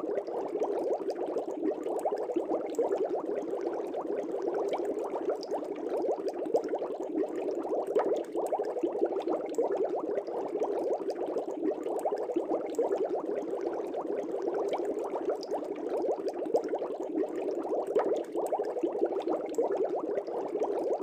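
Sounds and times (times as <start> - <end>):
aquarium air bubbling: 0.0 - 21.0.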